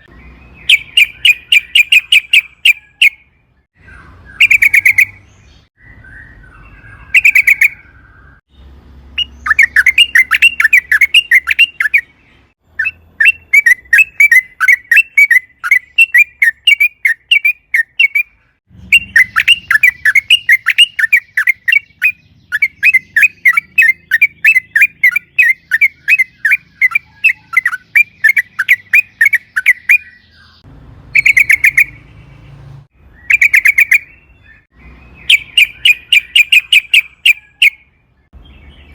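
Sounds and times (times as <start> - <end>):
bird singing rapid chattering notes: 0.0 - 38.9.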